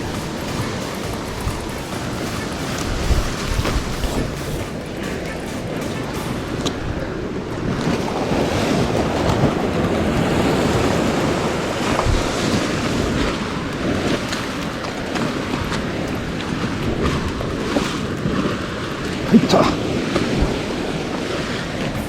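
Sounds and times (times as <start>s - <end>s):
sea waves washing on shore: 0.0s - 22.0s
wind buffeting microphone: 0.0s - 22.0s.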